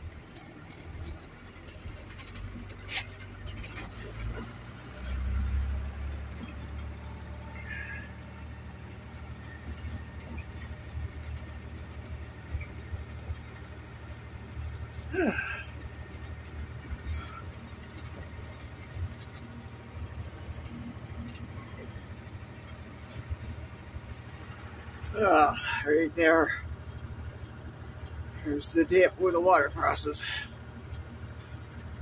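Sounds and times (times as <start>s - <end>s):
truck rumble in snow: 0.0s - 32.0s.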